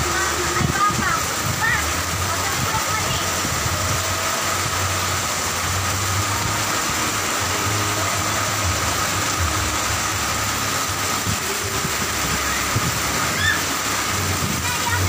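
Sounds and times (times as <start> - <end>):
fast-flowing floodwater: 0.0 - 15.0
heavy rain: 0.0 - 15.0.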